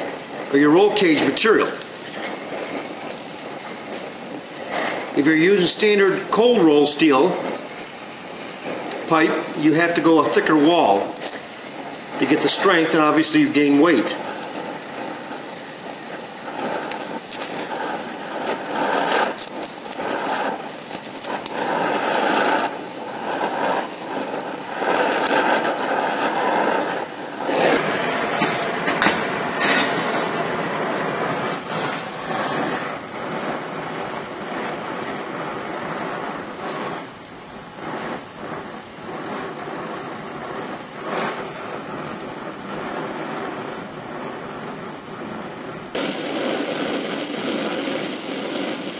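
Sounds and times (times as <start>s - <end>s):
welding torch flame hissing: 0.0s - 48.9s.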